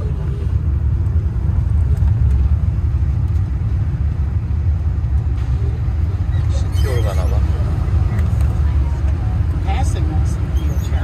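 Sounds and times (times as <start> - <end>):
small train rumbling: 0.0 - 11.0.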